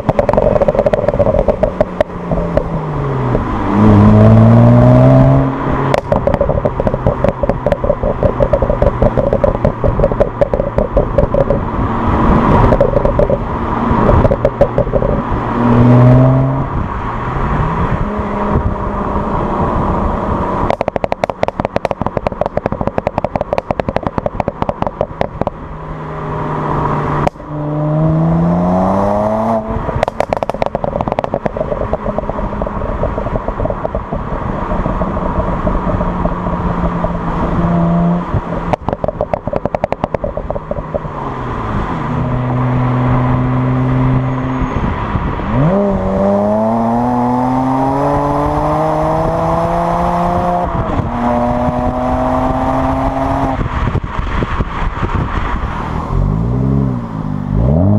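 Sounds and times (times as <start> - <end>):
car engine accelerating: 0.0 - 57.9
exhaust crackling and popping: 0.0 - 57.9.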